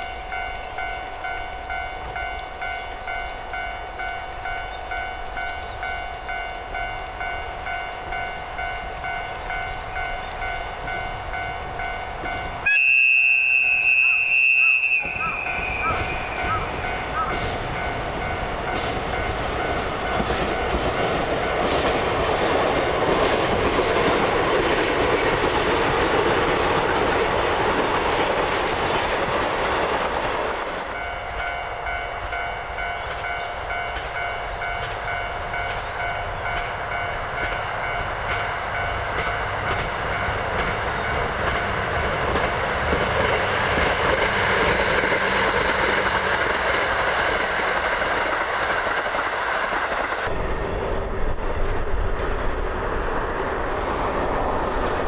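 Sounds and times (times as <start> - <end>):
diesel locomotive engine: 0.0 - 55.0
train wheels clicking over rail joints: 0.0 - 55.0.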